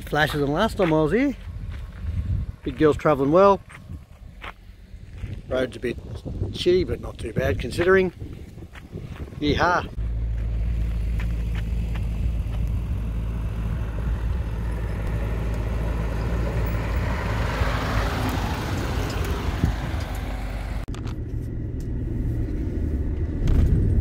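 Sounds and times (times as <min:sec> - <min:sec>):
low engine hum: 0:00.0 - 0:24.0
tyre and road noise: 0:00.0 - 0:24.0.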